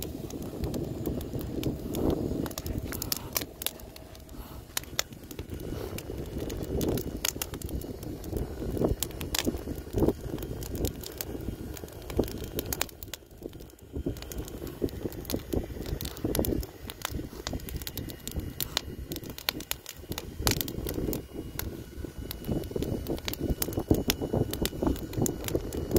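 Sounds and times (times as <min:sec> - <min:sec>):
wind rumble on microphone: 0:00.0 - 0:25.9
wood fire crackling and popping: 0:00.0 - 0:25.9.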